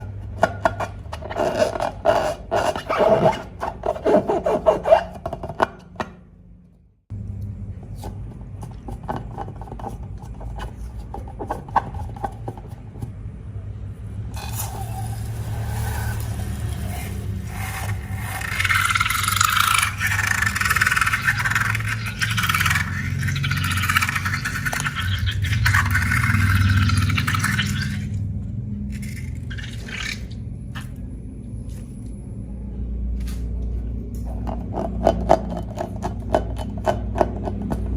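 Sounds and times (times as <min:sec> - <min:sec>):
steady low hum: 0:06.5 - 0:37.9.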